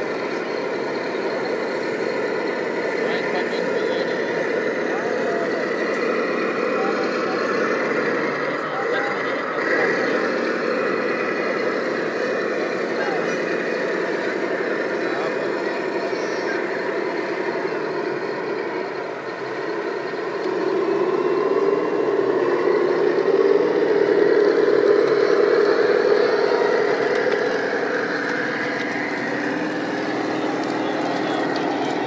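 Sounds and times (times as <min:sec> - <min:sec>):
model tank motor humming: 0:00.0 - 0:32.0.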